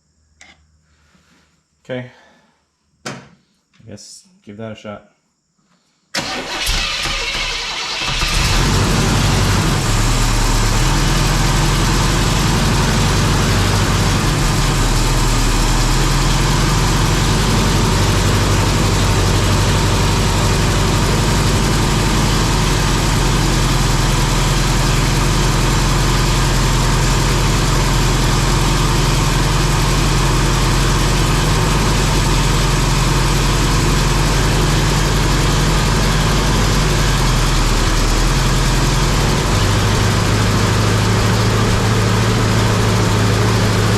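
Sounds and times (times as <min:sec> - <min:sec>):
car engine running: 0:06.2 - 0:43.9.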